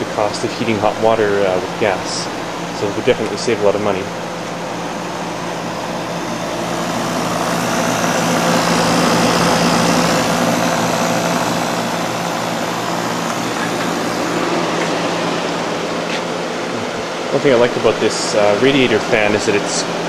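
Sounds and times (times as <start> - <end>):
compressor humming: 0.0 - 20.0
fan rushing air: 0.0 - 20.0.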